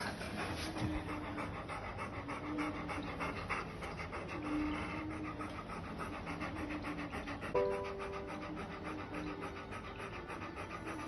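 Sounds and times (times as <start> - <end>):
dog panting rapidly: 0.0 - 11.0.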